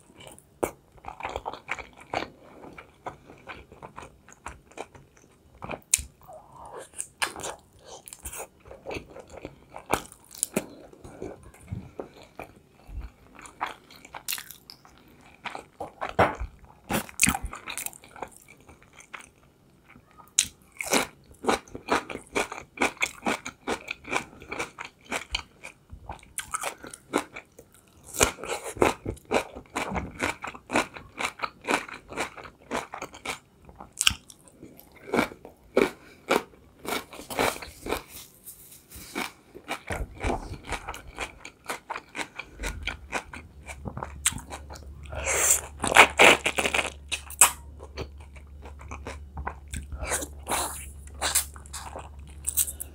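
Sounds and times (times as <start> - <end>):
crunching and chewing cucumber: 0.0 - 6.2, 6.8 - 19.4, 20.3 - 38.2, 39.0 - 52.9.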